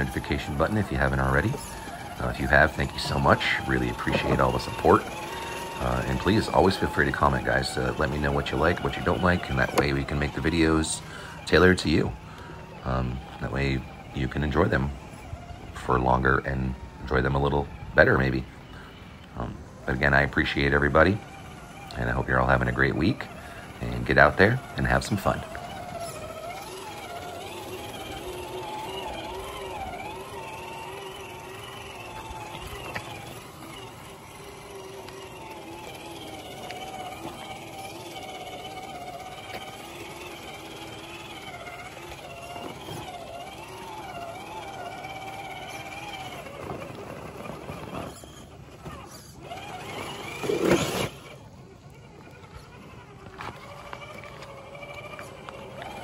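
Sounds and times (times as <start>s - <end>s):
electric motor and gears whining: 0.0s - 56.0s.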